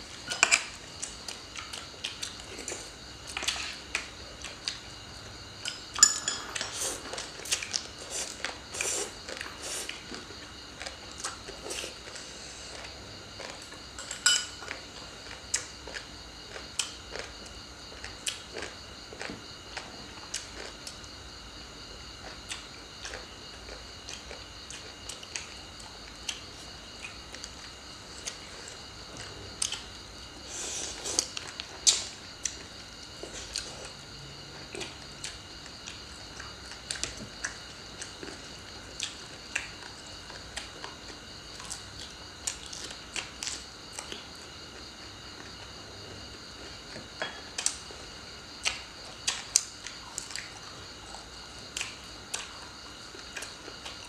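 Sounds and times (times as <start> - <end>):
chewing and crunching food: 0.0 - 54.0.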